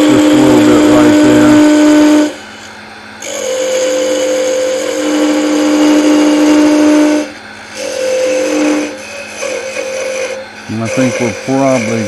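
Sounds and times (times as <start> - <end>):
lathe parting tool whining: 0.0 - 12.0.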